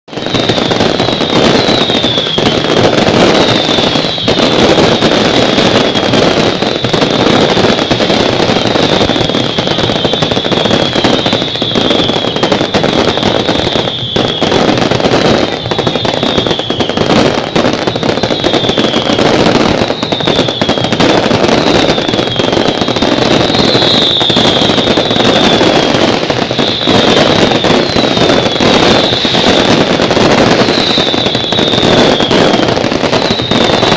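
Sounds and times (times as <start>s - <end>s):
fireworks crackling: 0.1s - 33.9s
falling whistles: 0.2s - 7.8s, 8.6s - 14.7s, 15.4s - 29.8s, 30.5s - 33.9s.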